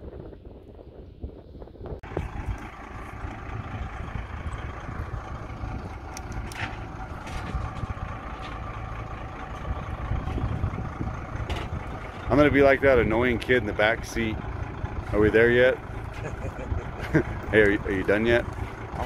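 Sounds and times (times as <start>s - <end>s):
truck engine idling: 2.0s - 19.0s.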